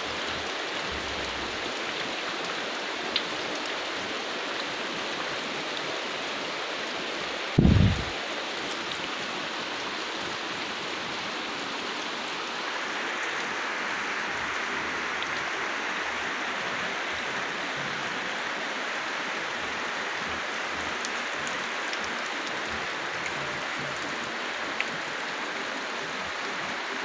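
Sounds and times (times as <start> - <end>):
rain on foliage: 0.0 - 27.0.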